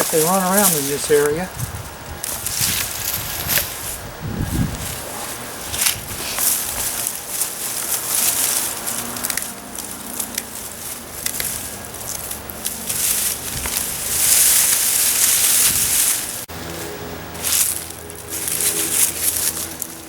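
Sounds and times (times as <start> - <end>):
leaves rustling and crackling: 0.0 - 20.0.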